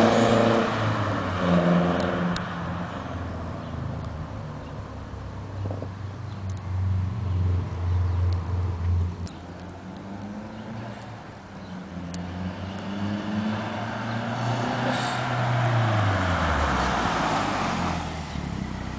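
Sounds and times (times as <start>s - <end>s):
car engine revving: 0.0s - 4.1s, 6.8s - 18.9s
road noise rushing: 0.0s - 18.9s.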